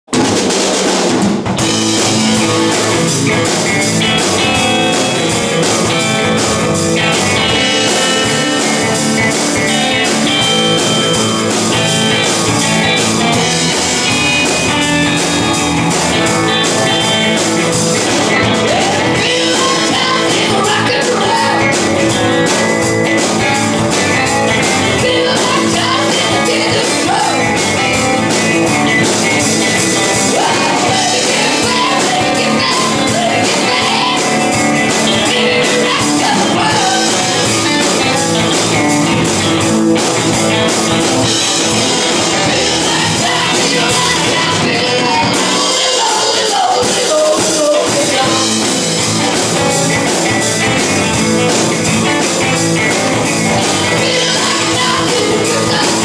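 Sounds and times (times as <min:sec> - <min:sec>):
drum kit with cymbals: 0:00.1 - 0:56.0
electric guitars: 0:00.1 - 0:56.0
electric bass: 0:01.4 - 0:56.0.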